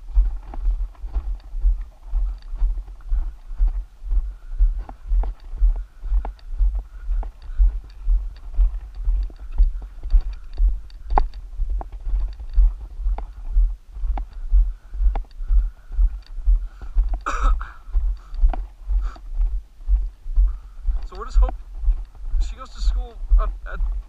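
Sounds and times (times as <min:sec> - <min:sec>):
dull footstep thumps: 0:00.0 - 0:24.0
gravel crunching underfoot: 0:00.0 - 0:24.0.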